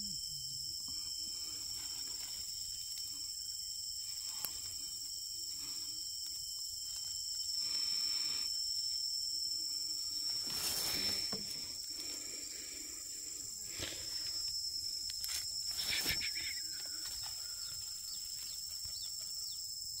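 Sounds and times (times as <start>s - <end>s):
high-pitched insect drone: 0.0s - 20.0s.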